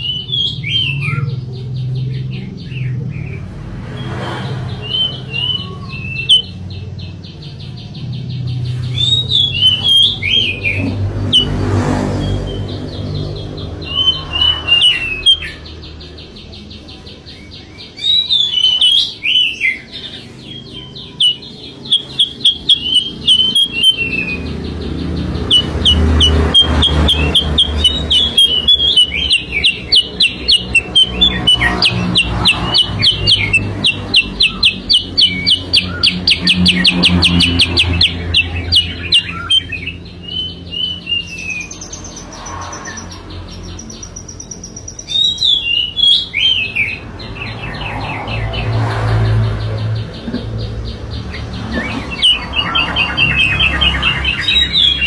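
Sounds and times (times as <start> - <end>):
bird song with chirps and trills: 0.0 - 55.0.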